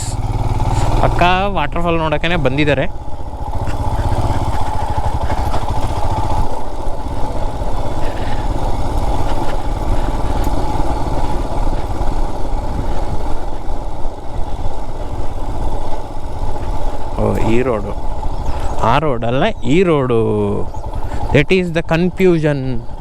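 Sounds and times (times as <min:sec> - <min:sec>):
motorcycle engine thumping: 0:00.0 - 0:19.0, 0:19.6 - 0:23.0.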